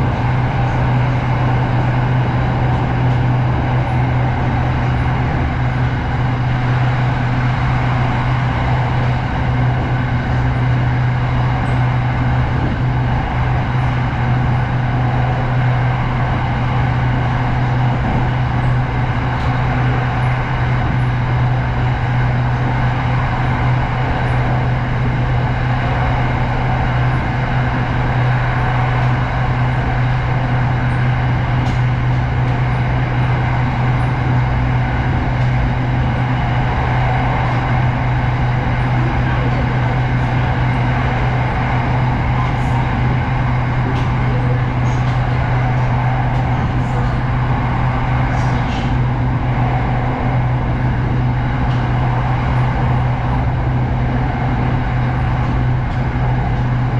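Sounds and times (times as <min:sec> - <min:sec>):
electric train running: 0:00.0 - 0:56.9.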